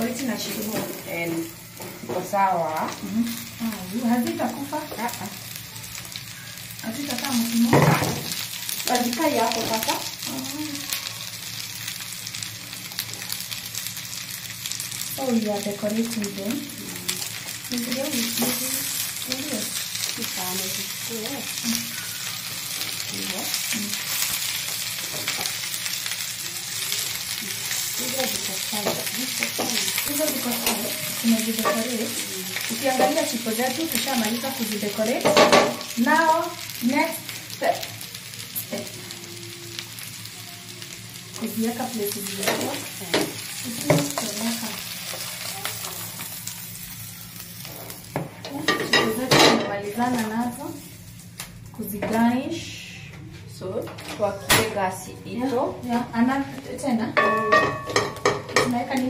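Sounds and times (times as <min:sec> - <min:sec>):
chips sizzling in oil: 0:00.0 - 0:52.7, 0:54.9 - 0:59.0.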